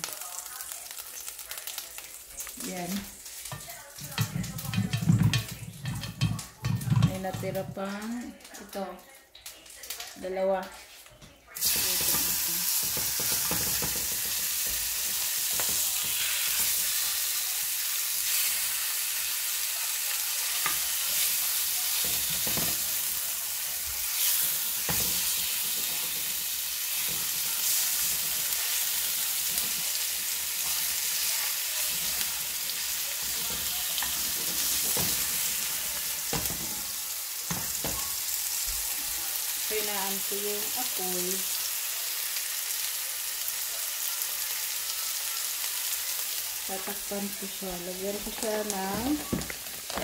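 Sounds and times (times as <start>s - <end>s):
meat sizzling in oil: 0.0s - 8.8s, 11.5s - 50.0s.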